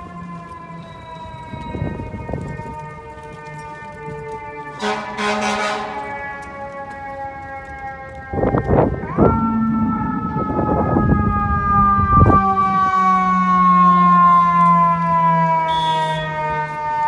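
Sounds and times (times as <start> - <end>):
traffic rumble: 0.0 - 15.7
emergency siren wailing: 0.0 - 17.0.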